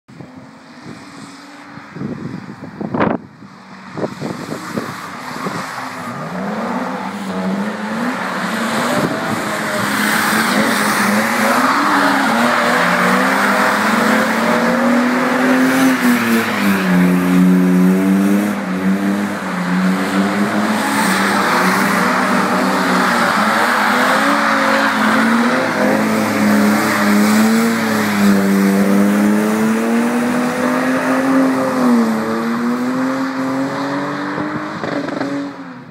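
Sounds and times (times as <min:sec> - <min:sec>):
car engines revving: 0:00.1 - 0:35.9.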